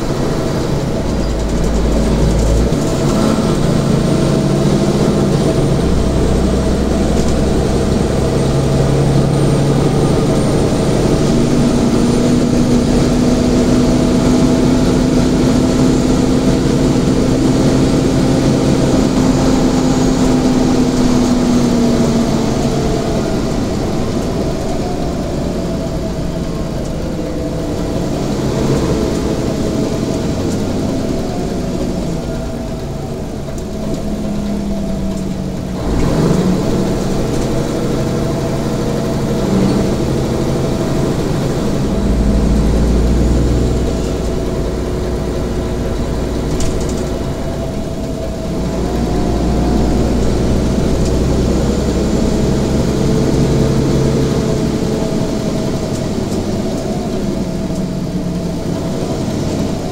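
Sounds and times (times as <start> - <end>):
bus engine running: 0.0 - 59.9
deep low rumble: 0.0 - 59.9.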